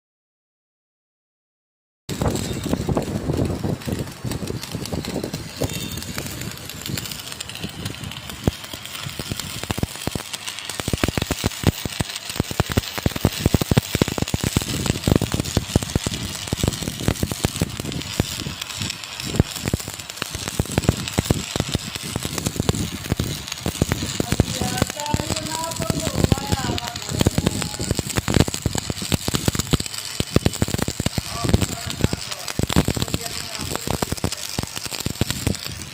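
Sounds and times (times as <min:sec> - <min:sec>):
welding arc crackling: 0:02.1 - 0:35.9
welding hiss: 0:02.1 - 0:35.9.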